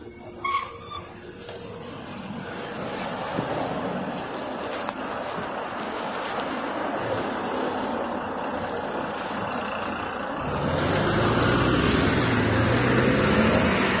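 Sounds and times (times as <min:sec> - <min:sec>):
bus engine hum passing by: 0:00.0 - 0:14.0.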